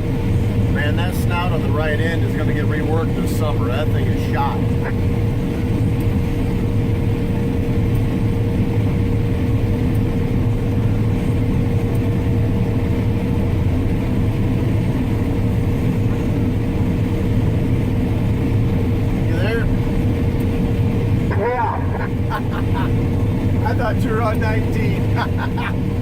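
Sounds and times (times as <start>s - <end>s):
diesel engine drone: 0.0s - 26.0s
steady whine: 0.0s - 26.0s.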